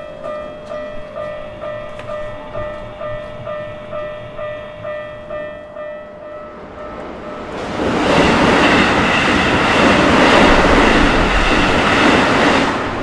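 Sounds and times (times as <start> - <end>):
crossing warning bell ringing: 0.0 - 12.6
train passing: 0.0 - 13.0.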